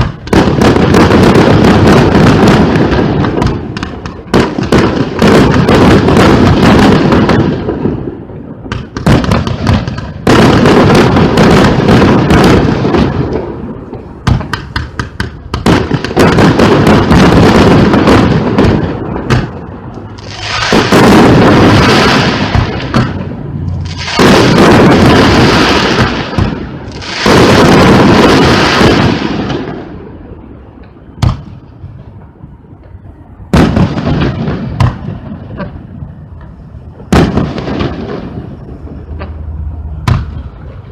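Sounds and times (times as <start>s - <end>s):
fireworks launches and bursts: 0.0s - 40.9s.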